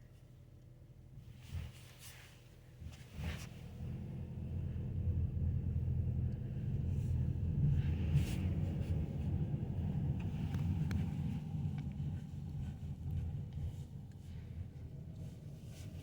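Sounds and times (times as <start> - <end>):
car rumble: 2.8 - 16.0.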